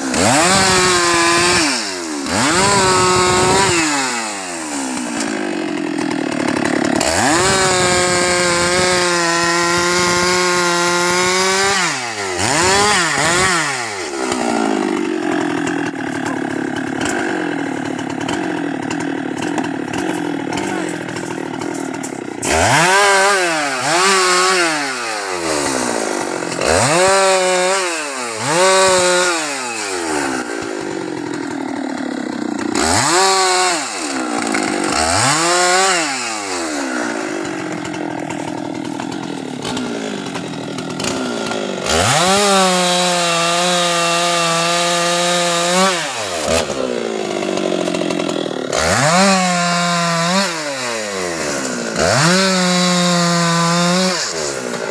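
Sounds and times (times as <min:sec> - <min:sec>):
chainsaw revving and cutting: 0:00.0 - 0:54.9.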